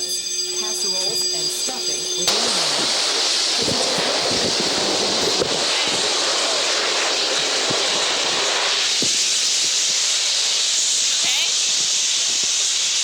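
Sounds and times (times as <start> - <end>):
gas discharge rushing hiss: 2.2 - 13.0.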